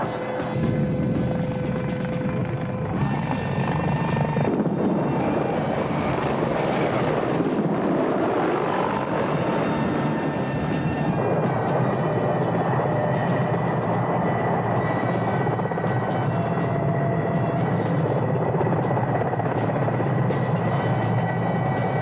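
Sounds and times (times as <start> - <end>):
helicopter rotor drone: 0.0 - 22.0
high turbine whine: 0.0 - 22.0.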